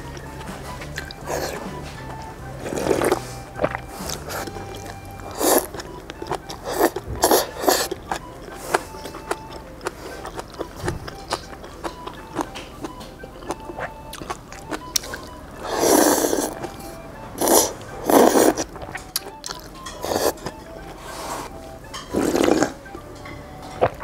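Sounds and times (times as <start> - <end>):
chewing with small clicks: 0.1 - 24.0
noodles slurped: 0.4 - 1.9, 2.6 - 16.8, 17.4 - 23.0.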